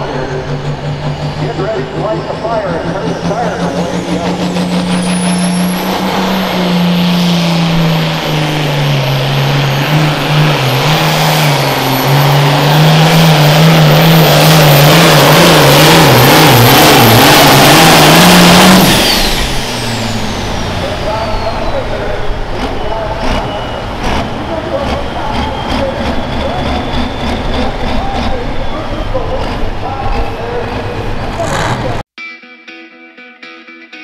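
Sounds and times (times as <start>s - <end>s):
high turbo whistle: 0.0s - 29.2s
diesel engine at full throttle: 0.0s - 32.1s.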